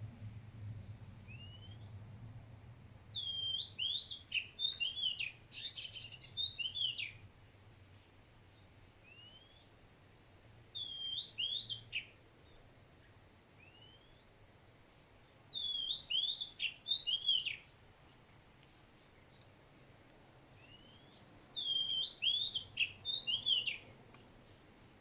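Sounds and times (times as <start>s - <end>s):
songbird singing whistled notes: 0.8s - 2.0s, 3.1s - 9.8s, 10.7s - 14.4s, 15.2s - 19.9s, 20.5s - 25.0s.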